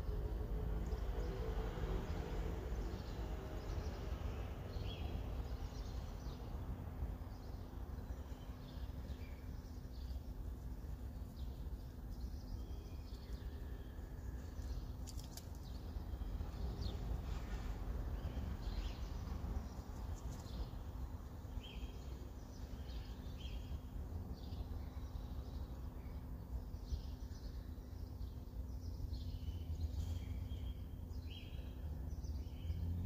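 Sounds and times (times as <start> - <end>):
faint hum: 0.0 - 32.8.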